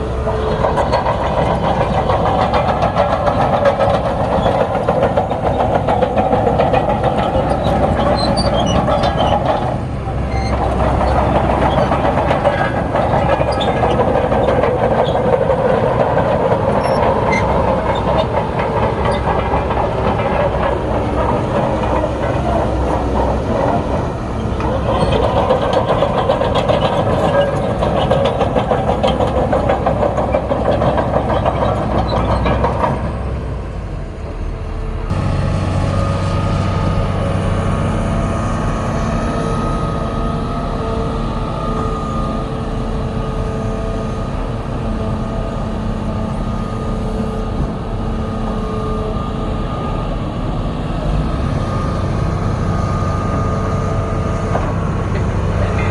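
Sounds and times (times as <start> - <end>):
diesel machinery engine rattling: 0.0 - 55.9.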